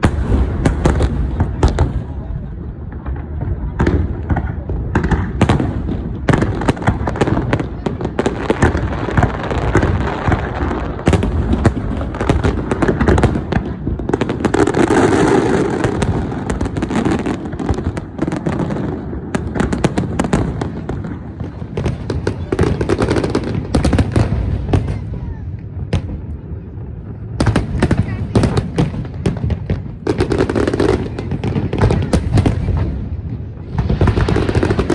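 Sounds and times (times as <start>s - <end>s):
fireworks booms and crackling bangs: 0.0s - 34.9s.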